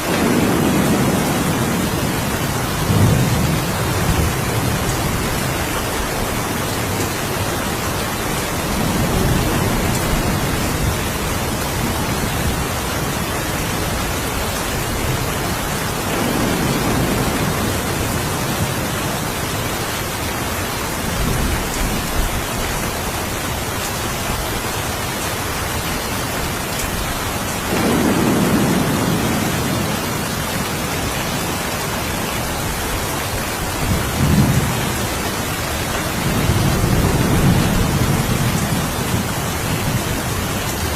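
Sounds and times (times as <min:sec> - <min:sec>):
thunder rolling: 0:00.0 - 0:19.6, 0:27.1 - 0:40.9
steady rain: 0:00.0 - 0:40.9.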